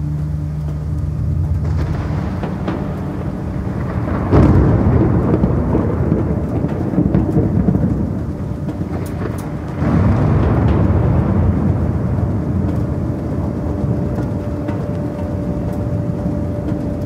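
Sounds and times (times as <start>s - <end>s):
rain hiss: 0.0s - 17.0s
rolling thunder: 1.0s - 17.0s
thunder clap: 1.0s - 17.0s.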